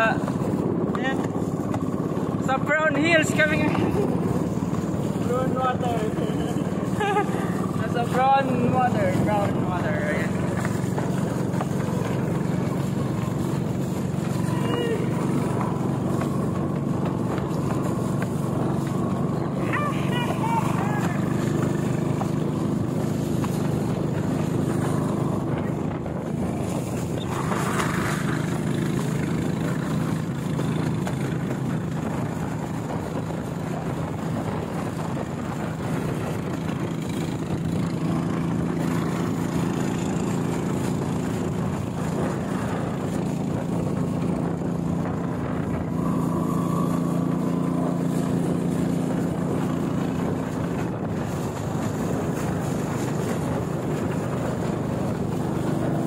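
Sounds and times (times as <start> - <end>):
boat engine running: 0.0 - 56.0
water splashing along hull: 0.0 - 56.0.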